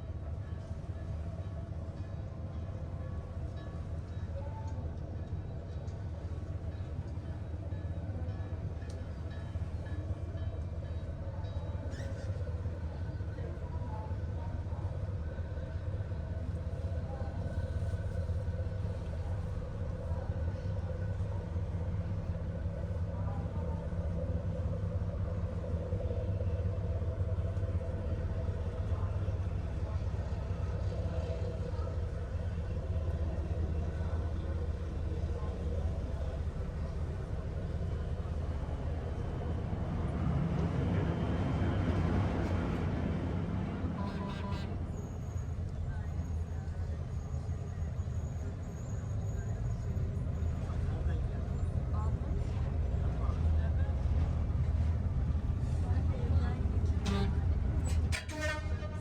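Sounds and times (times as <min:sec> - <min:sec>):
faint engine hum: 0:00.0 - 0:59.0
ferry engine low rumble: 0:00.0 - 0:59.0.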